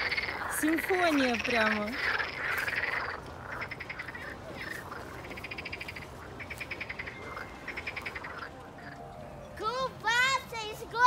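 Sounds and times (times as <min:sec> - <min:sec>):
frogs croaking: 0:00.0 - 0:09.6.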